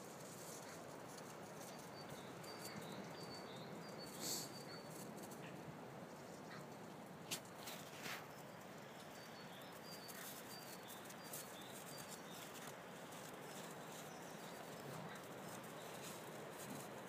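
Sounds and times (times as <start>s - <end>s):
paws scuffling in snow: 0.0s - 5.6s, 7.3s - 17.0s
small birds chirping: 0.3s - 5.6s, 7.6s - 17.0s.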